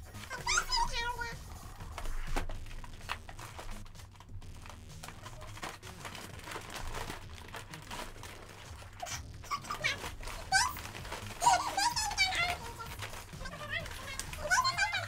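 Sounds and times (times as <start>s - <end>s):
paper sack crinkling: 0.0s - 15.0s.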